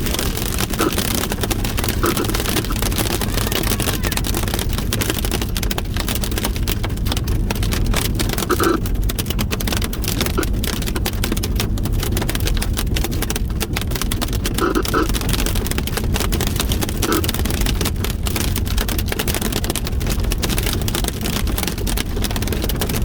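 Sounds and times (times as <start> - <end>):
hail and rain pelting a vehicle: 0.0 - 23.0
road rumble: 0.0 - 23.0.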